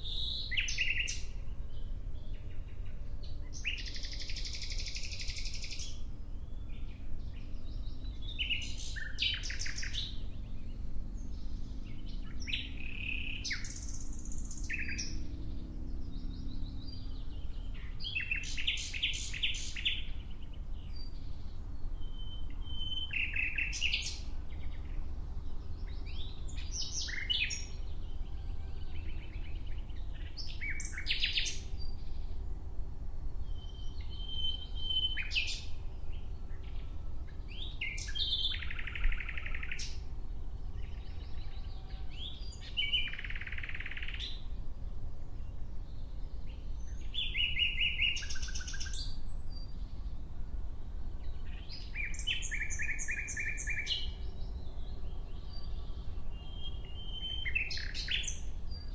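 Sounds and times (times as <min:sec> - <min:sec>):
nightingale singing: 0:00.0 - 0:32.4, 0:33.4 - 0:44.7, 0:45.4 - 0:50.2, 0:51.2 - 0:58.9.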